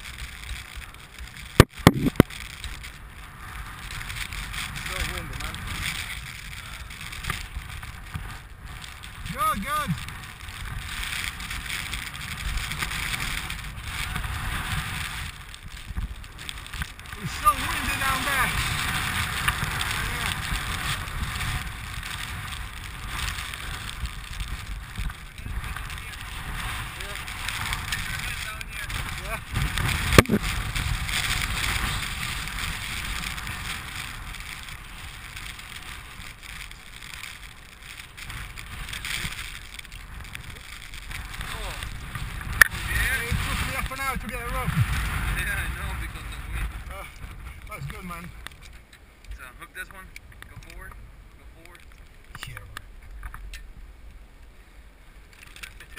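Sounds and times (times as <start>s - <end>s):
wind buffeting microphone: 0.0s - 54.1s.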